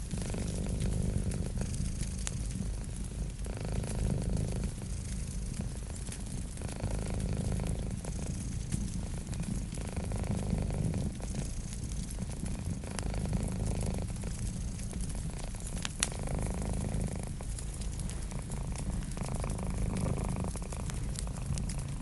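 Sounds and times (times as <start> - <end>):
cat purring: 0.0 - 22.0
wood fire crackling and popping: 0.0 - 22.0.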